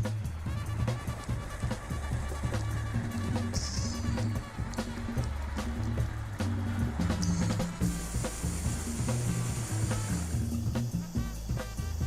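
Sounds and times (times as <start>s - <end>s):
drum beat with bass line: 0.0s - 12.0s.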